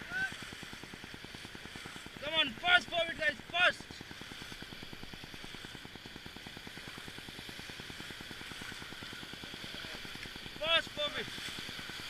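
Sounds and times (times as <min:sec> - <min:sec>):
low pulsing: 0:00.0 - 0:12.0.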